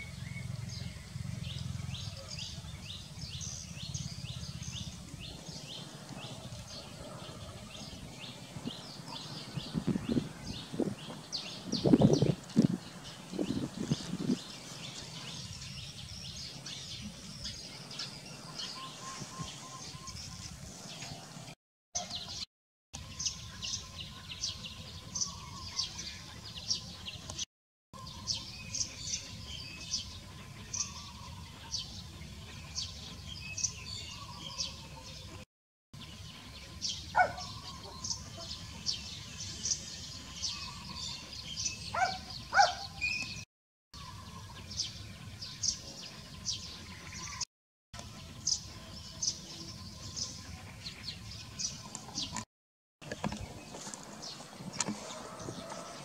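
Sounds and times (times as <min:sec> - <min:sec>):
small birds chirping: 0:00.0 - 0:35.4, 0:36.0 - 0:56.0.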